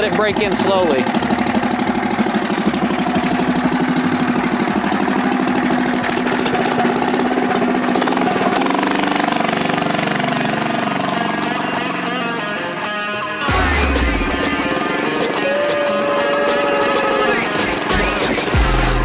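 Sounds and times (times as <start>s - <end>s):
minibike engine running: 0.0s - 19.0s.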